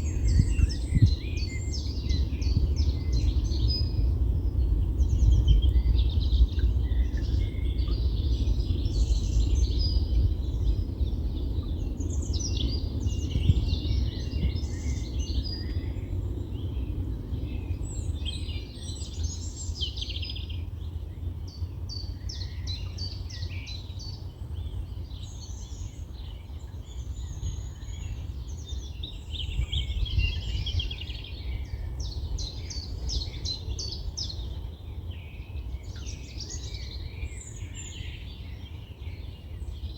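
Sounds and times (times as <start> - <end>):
small birds singing and calling: 0.0 - 39.9
wind rumble on microphone: 0.0 - 39.9.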